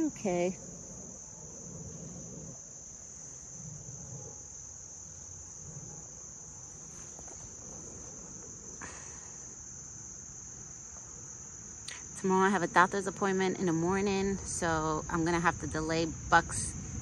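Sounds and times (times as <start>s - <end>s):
insects chirping shrilly: 0.0s - 17.0s.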